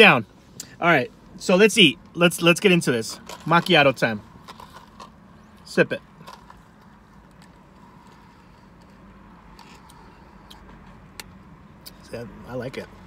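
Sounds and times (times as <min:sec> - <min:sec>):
low hum inside car cabin: 0:00.0 - 0:13.0.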